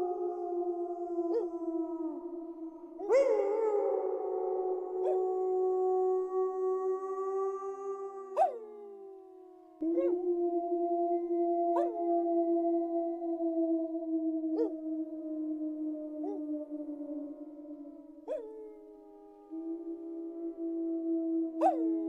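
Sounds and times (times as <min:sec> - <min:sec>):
wolves howling: 0:00.0 - 0:09.1, 0:09.8 - 0:22.0.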